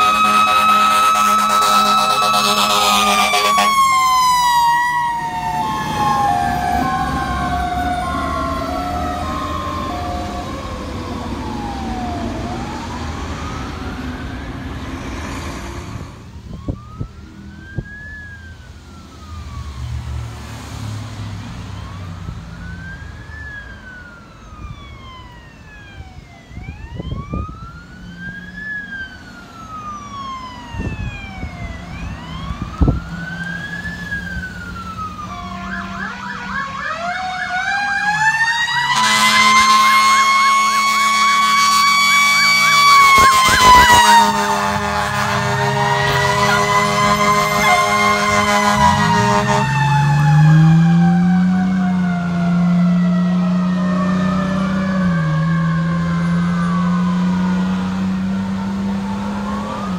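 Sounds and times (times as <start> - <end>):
electronic siren wailing: 0.0 - 15.4, 16.0 - 20.0, 21.4 - 59.9.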